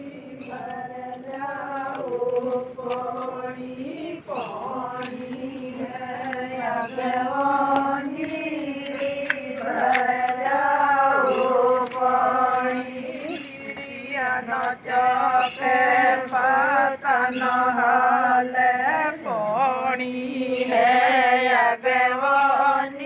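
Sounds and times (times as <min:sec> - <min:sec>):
women singing in unison: 0:00.0 - 0:23.0.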